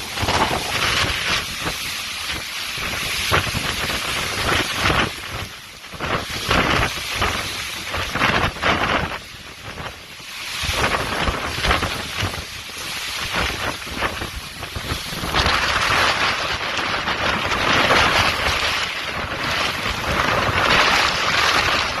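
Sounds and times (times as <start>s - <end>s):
heavy rain: 0.0s - 22.0s
steady loud rushing: 0.0s - 22.0s
wind buffeting microphone: 0.0s - 22.0s.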